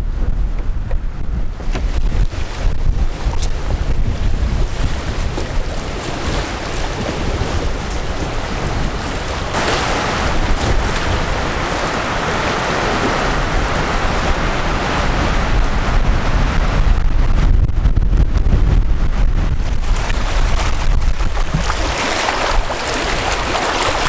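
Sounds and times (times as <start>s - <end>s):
wind and lake waves rushing: 0.0s - 24.0s
wind rumbling on microphone: 0.0s - 24.0s.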